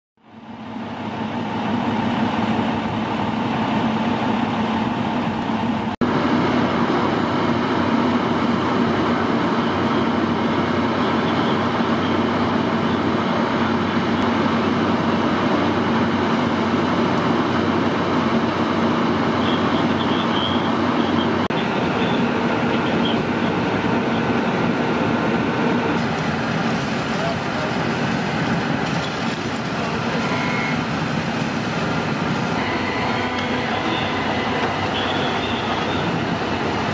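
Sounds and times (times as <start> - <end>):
engine hum: 0.2 - 36.9
fire hose water streams: 0.3 - 36.9
flames roaring: 0.4 - 36.9.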